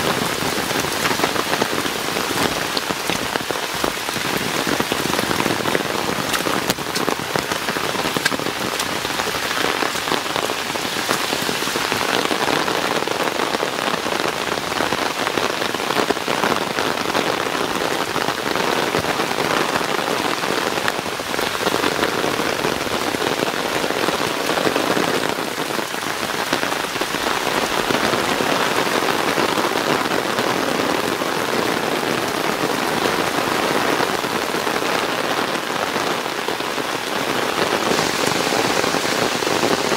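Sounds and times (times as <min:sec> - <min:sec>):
heavy rain on leaves and rock: 0:00.0 - 0:39.9.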